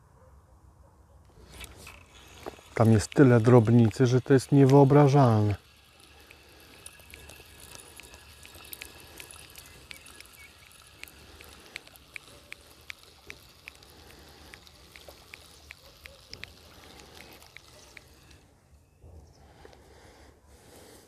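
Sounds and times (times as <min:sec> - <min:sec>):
fishing reel clicking: 0:01.4 - 0:18.5.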